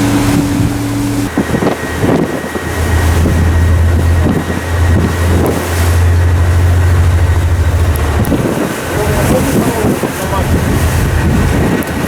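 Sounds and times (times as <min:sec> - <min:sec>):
ship engine drone: 0:00.0 - 0:12.0
wind on microphone: 0:00.0 - 0:12.0.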